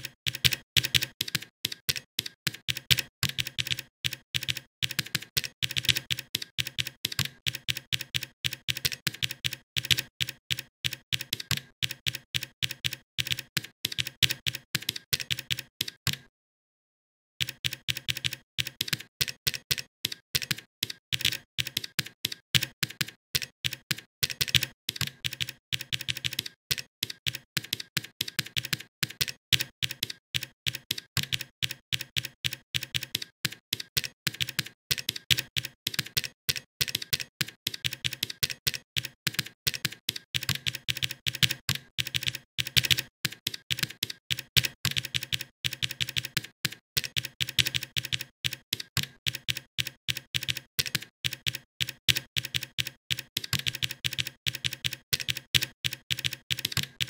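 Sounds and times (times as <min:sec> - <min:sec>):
typing on keyboard: 0:00.0 - 0:16.3, 0:17.4 - 0:57.0.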